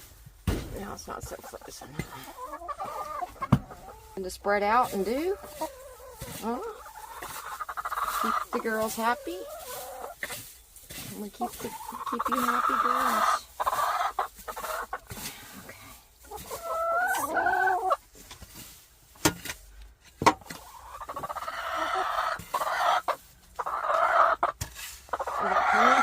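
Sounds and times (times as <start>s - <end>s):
hens clucking and calling: 0.8s - 18.4s, 20.3s - 26.0s.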